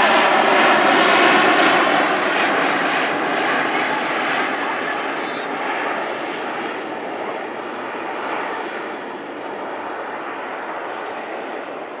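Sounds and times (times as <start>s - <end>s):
jet aircraft climbing: 0.0s - 12.0s.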